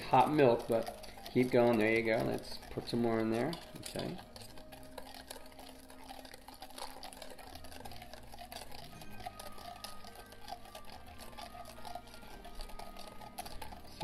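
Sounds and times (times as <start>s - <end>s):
whisk clicking against metal bowl: 0.0s - 14.0s.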